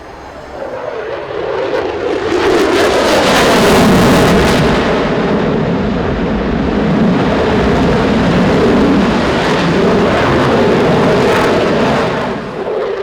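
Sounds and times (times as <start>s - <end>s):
jet engines roaring flyby: 0.0s - 13.0s.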